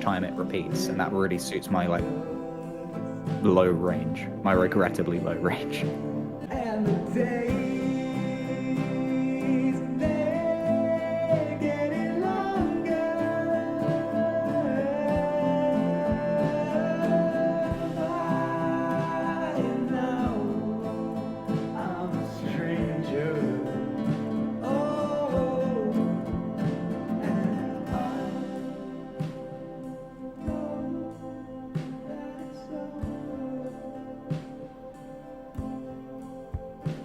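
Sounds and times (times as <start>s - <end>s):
person singing low notes: 0.0s - 35.8s
instrumental backing: 0.0s - 37.0s.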